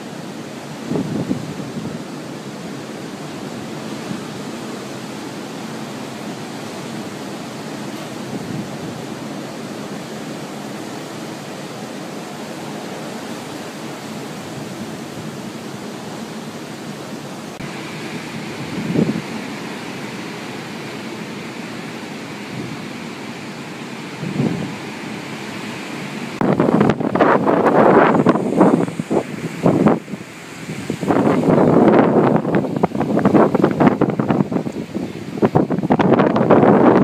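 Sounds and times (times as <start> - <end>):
wind buffeting microphone: 0.0 - 20.4, 24.0 - 37.0
hurricane wind: 0.0 - 37.0
surf: 0.0 - 37.0.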